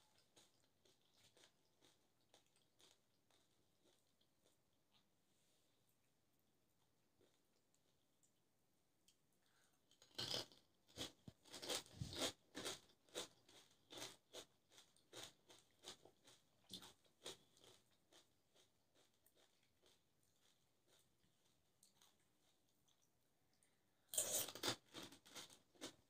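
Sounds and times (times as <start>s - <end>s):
rhythmic chewing: 0.0s - 5.2s, 9.1s - 26.0s.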